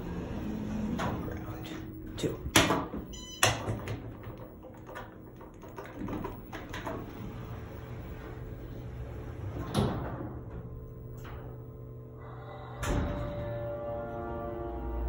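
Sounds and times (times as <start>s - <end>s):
elevator doors sliding shut: 0.0s - 15.0s
steady low hum: 0.0s - 15.0s.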